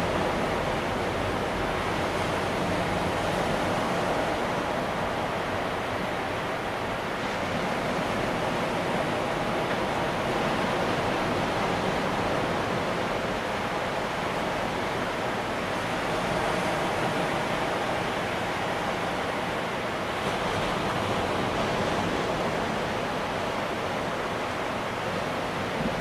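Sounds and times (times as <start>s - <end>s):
ocean surf breaking waves: 0.0s - 26.0s.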